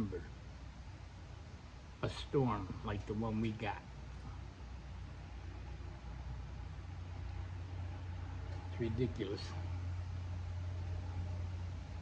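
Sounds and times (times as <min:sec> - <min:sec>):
faint background hiss: 0:00.0 - 0:12.0
vehicle engine idling: 0:00.0 - 0:12.0.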